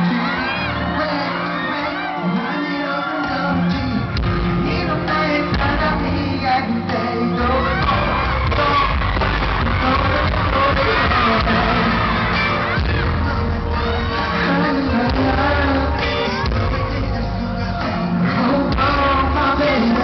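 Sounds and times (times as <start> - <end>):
crowd screaming and cheering: 0.0 - 20.0
live pop music with singing: 0.0 - 20.0.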